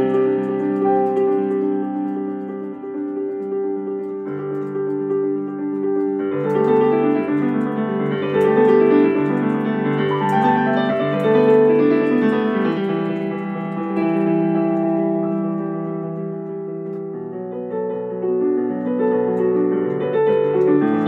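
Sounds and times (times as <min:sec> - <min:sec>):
solo piano piece: 0:00.0 - 0:21.0.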